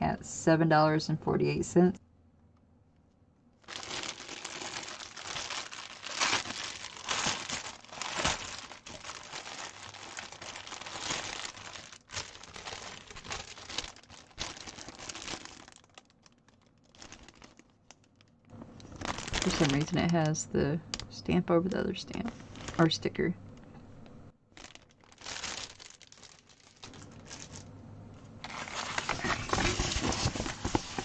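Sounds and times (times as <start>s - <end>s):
plastic packaging crinkling: 3.6s - 23.1s, 24.5s - 31.0s.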